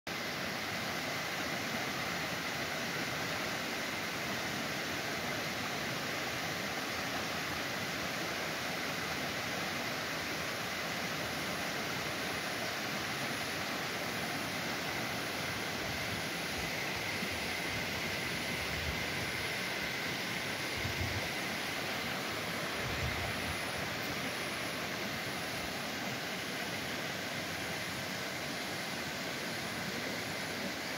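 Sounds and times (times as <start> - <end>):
stream rushing over rocks: 0.1 - 30.9.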